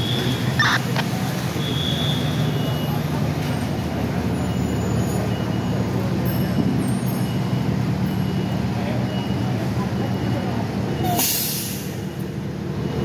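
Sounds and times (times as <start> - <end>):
heavy vehicle engines idling: 0.0 - 13.0
street traffic: 0.0 - 13.0.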